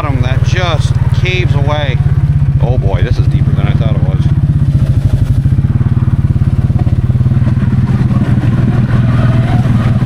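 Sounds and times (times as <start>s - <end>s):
atv engine running in mud: 0.0s - 10.0s.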